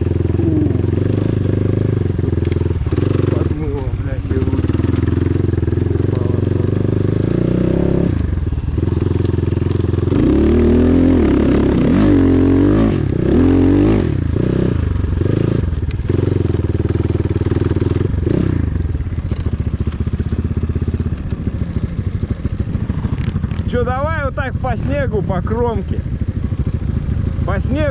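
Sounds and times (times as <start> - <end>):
motorcycle engine revving and idling: 0.0 - 27.9.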